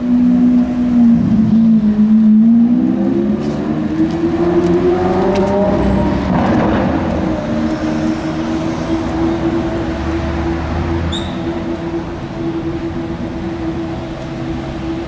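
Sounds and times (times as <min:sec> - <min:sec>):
car engine revving: 0:00.1 - 0:12.8.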